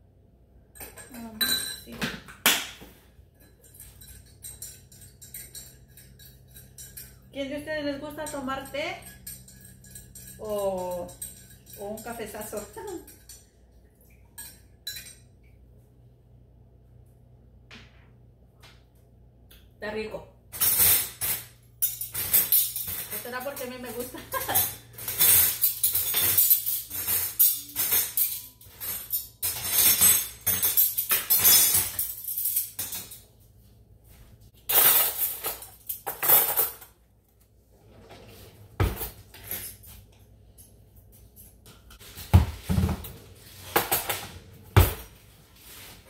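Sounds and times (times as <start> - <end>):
utensils and dishes clattering: 0.7 - 2.6, 3.3 - 15.3, 20.5 - 33.5, 34.6 - 37.0, 37.9 - 46.0.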